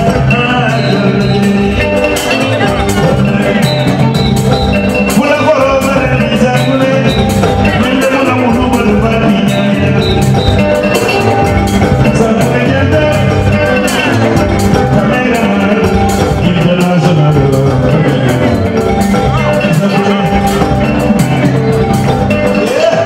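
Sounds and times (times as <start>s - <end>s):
drums dance beat: 0.0s - 23.0s.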